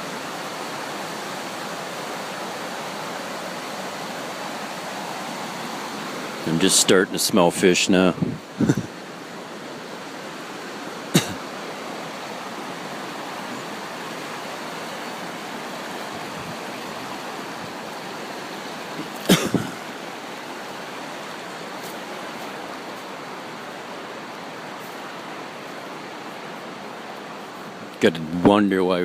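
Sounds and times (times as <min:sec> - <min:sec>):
river water rushing over rapids: 0:00.0 - 0:29.0.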